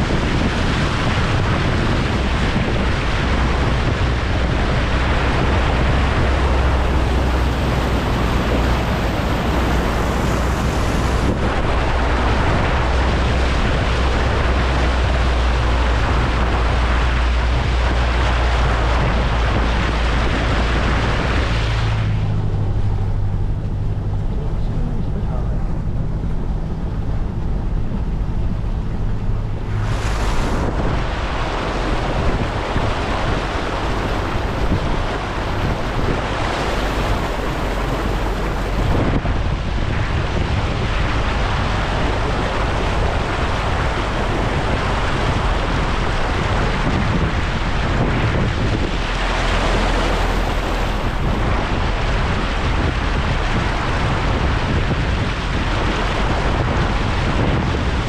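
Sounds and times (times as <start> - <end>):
engine low hum: 0.0 - 58.0
water rushing and splashing: 0.0 - 58.0.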